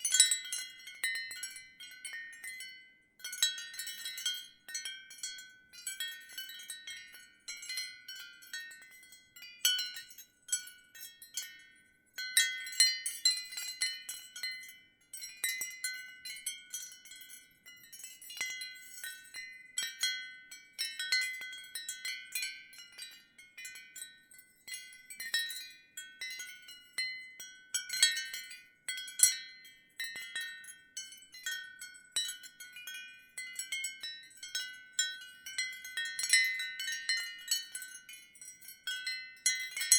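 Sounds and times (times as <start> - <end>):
ceramic wind chimes chiming: 0.0 - 39.9.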